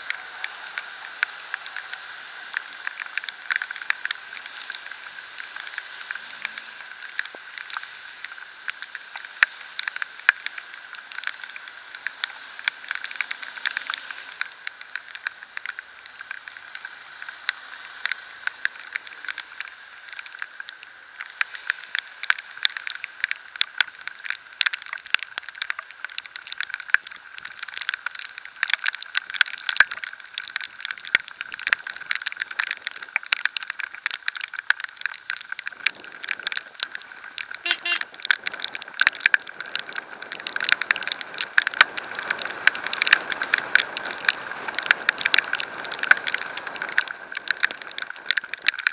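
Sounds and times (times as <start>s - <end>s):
raindrops ticking on camera: 0.0s - 48.9s
road and wind noise: 0.0s - 48.9s.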